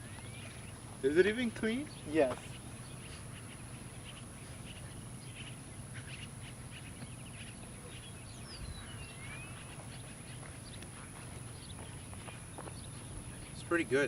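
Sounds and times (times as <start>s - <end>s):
birds chirping: 0.0s - 14.0s
steady low background noise: 0.0s - 14.0s.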